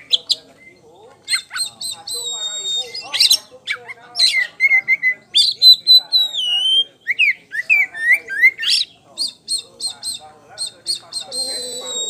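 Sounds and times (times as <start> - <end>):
bird singing clear whistles: 0.0 - 3.5, 4.2 - 12.0.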